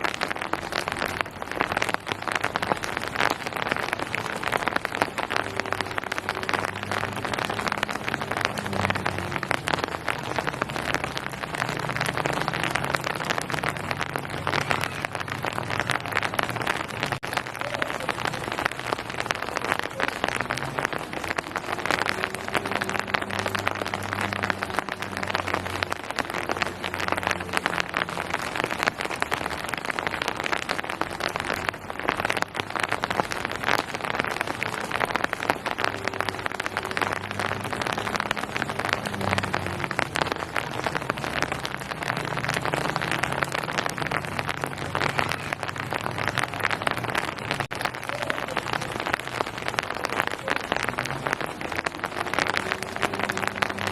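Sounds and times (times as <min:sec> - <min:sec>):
rain on hard surfaces: 0:00.0 - 0:53.9.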